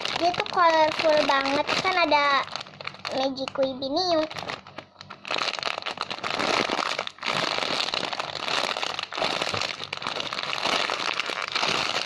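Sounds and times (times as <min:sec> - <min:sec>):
squishy toy crinkling and rustling: 0:00.0 - 0:12.0.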